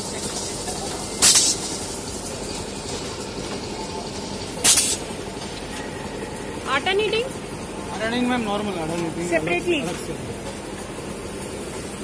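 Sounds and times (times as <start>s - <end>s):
machine running: 0.0s - 12.0s.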